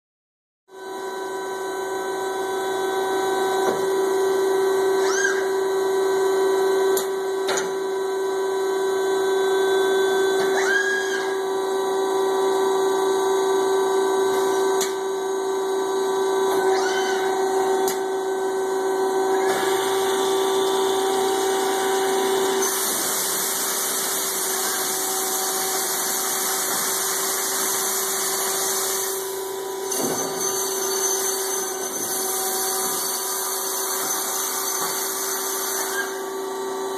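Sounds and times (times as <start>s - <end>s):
machine motor humming: 1.0s - 34.6s.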